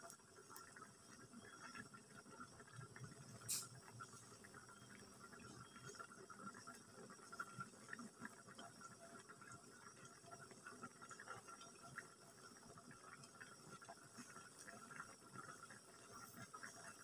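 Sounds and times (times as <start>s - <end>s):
food simmering crackling: 0.0s - 17.0s.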